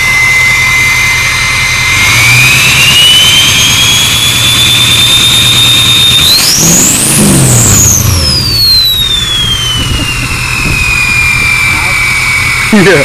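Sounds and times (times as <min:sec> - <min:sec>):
diesel engine rumble: 0:00.0 - 0:13.0
turbocharger whistle: 0:00.0 - 0:13.0.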